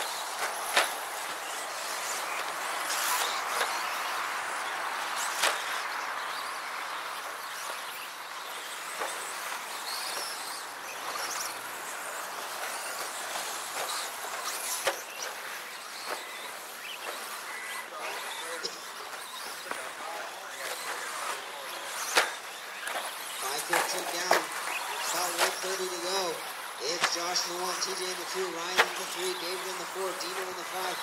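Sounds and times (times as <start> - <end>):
rc trucks motors and tyres hissing: 0.0 - 31.0.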